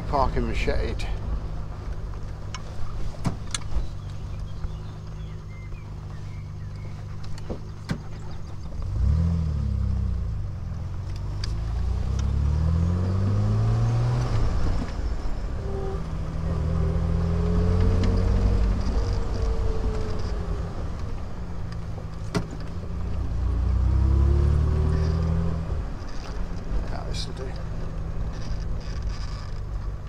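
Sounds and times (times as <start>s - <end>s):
car engine pulling away: 0.0s - 30.0s.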